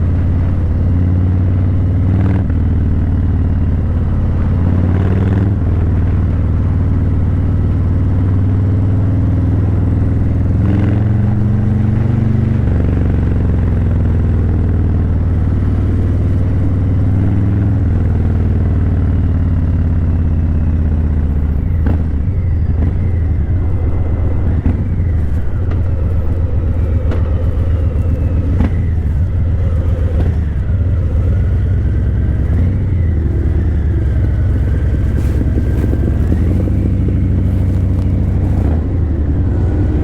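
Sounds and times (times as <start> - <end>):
motorcycle exhaust note: 0.0 - 40.0.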